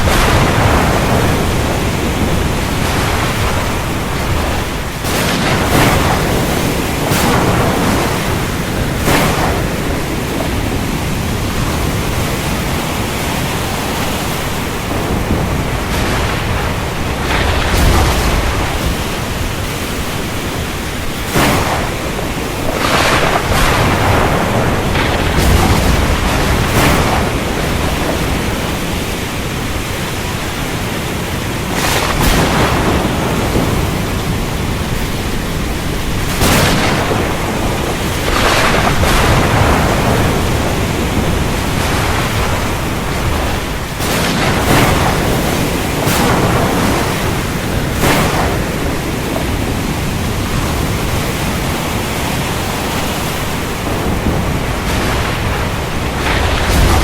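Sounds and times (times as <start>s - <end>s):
deep rumble of thunder: 0.0s - 57.0s
heavy rain falling: 0.0s - 57.0s.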